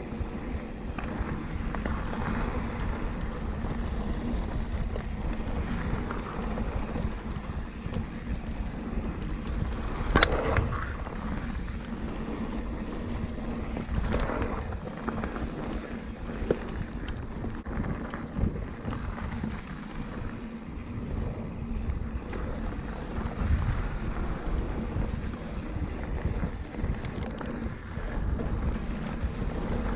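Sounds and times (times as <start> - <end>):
bike rolling rumble: 0.0 - 29.9
wind rushing over microphone: 0.0 - 29.9.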